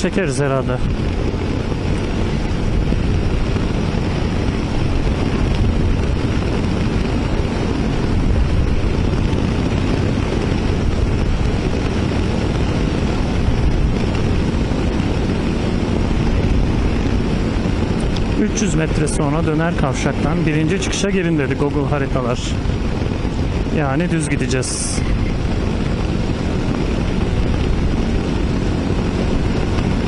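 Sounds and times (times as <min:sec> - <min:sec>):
motorcycle engine cruising: 0:00.0 - 0:30.0
wind rushing over helmet: 0:00.0 - 0:30.0.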